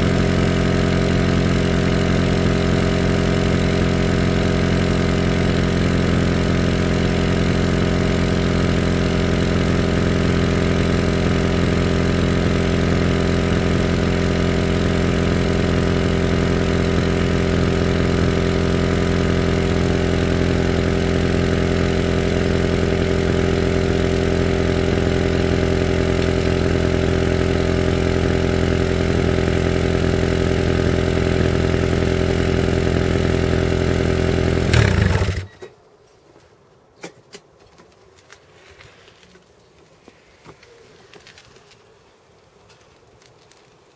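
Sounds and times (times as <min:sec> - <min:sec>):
car engine idling: 0:00.0 - 0:35.6.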